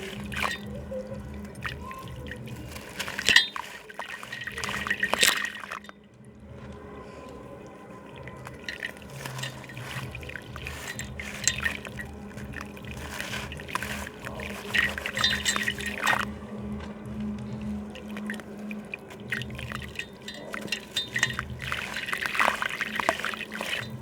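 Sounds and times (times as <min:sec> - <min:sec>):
chunks splashing into water: 0:00.0 - 0:24.0.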